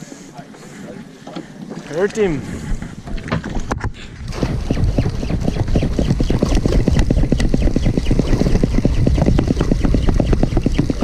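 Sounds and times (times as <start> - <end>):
wind and boat rumble: 0.0 - 11.0.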